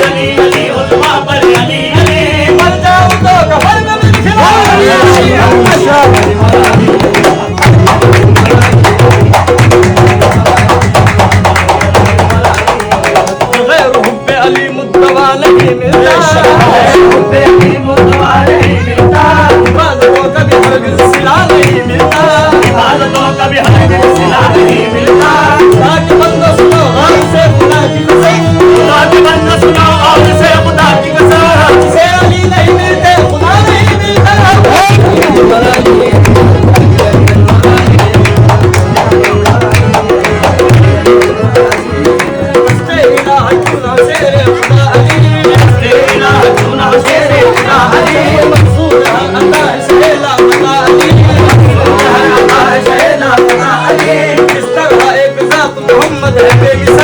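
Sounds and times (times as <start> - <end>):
tabla rhythm: 0.0 - 57.0.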